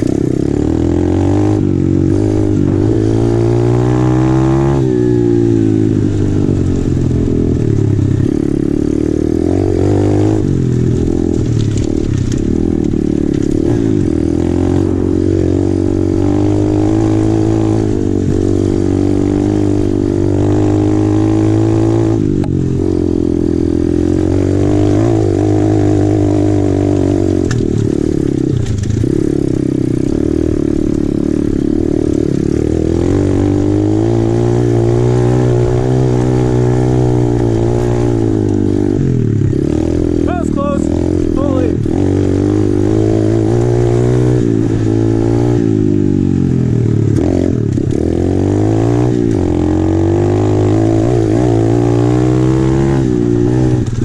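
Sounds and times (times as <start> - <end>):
motorbike engine revving: 0.0 - 54.0.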